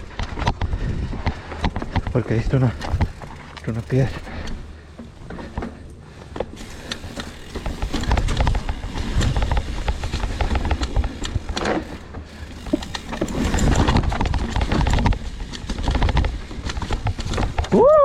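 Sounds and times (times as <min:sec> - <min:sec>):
bike clattering over rocks: 0:00.1 - 0:18.0.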